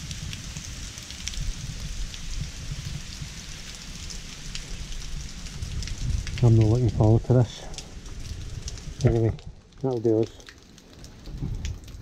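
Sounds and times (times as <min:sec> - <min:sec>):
heavy rain: 0:00.0 - 0:12.0
raindrop ticks: 0:00.0 - 0:12.0.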